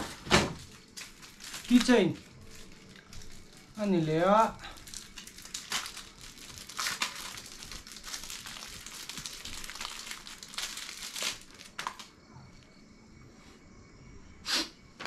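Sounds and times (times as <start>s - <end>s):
plastic packaging crinkling: 0.0s - 12.1s.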